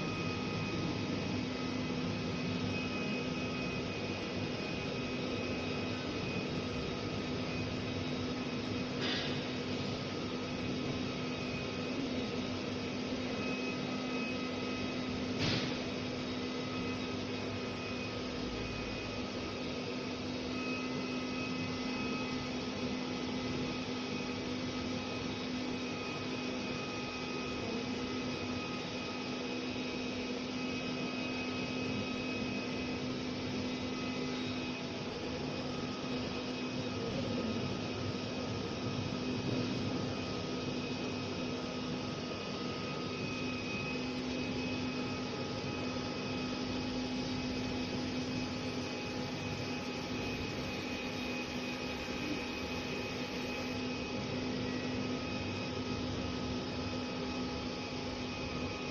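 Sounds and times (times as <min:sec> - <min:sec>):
blower and fans humming: 0:00.0 - 0:58.9.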